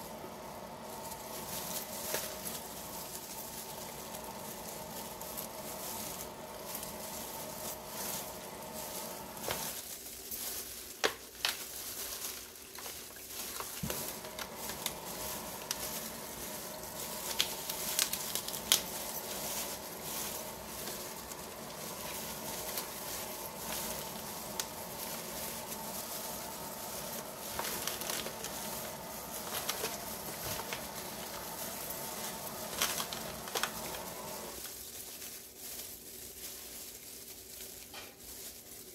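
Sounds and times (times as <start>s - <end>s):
sharp crackles and clicks: 0.0s - 35.9s
crinkling rustle of plastic gloves: 0.0s - 38.9s.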